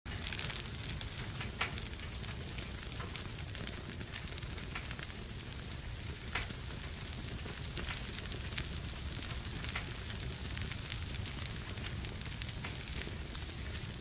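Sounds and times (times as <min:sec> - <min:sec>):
fire crackling and popping: 0:00.1 - 0:14.0.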